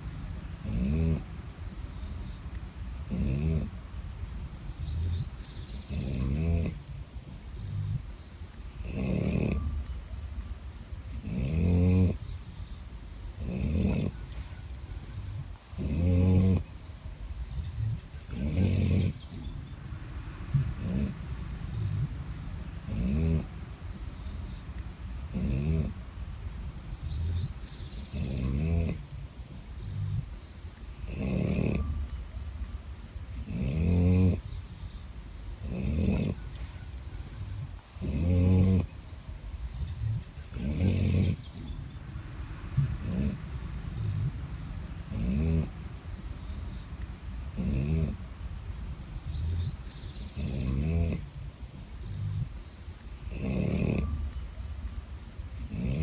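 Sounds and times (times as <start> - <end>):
dog snoring loudly: 0.0 - 6.9, 7.5 - 8.1, 8.8 - 10.1, 11.0 - 16.8, 17.4 - 32.4, 33.3 - 34.8, 35.5 - 52.6, 53.2 - 56.0
dog breathing: 0.0 - 56.0.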